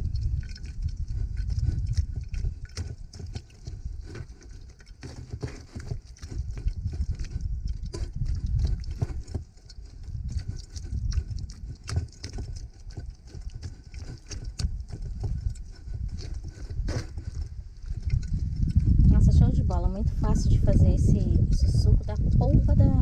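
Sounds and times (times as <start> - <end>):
low rumble: 0.0 - 4.2, 6.2 - 23.0.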